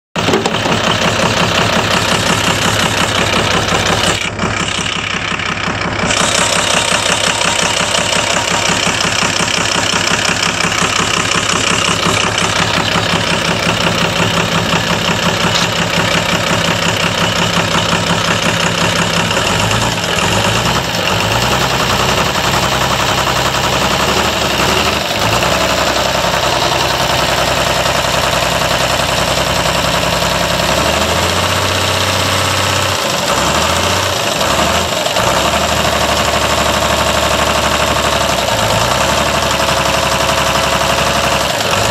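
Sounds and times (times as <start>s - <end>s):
diesel engine idling: 0.2s - 41.9s.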